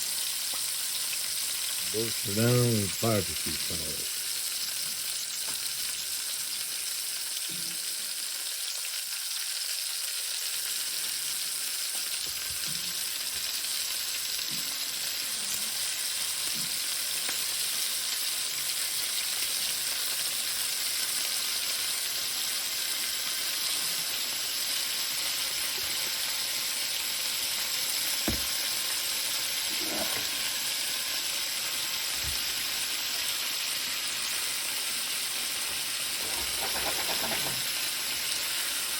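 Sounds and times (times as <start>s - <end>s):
food sizzling frying: 0.0s - 38.9s.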